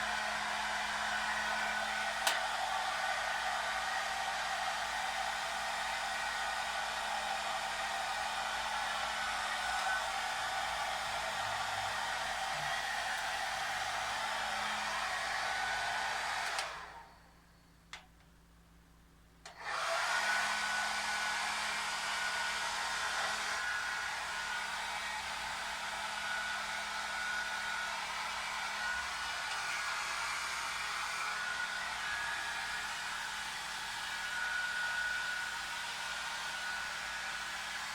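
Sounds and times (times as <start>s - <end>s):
hair dryer blowing: 0.0s - 17.2s, 19.5s - 37.9s.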